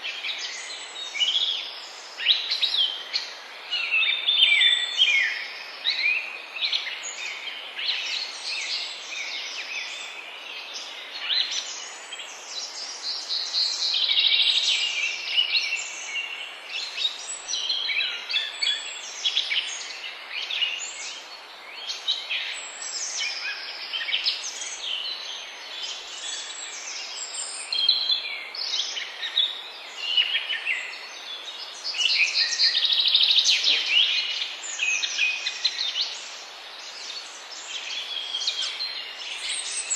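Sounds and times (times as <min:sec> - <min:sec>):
songbirds chirping: 0:00.0 - 0:39.9
steady low hiss: 0:00.0 - 0:39.9.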